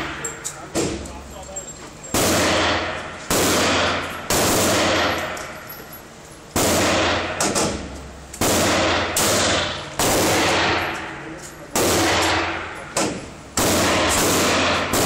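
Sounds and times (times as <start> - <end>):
gunshots echoing indoors: 2.1 - 5.7, 6.5 - 15.0.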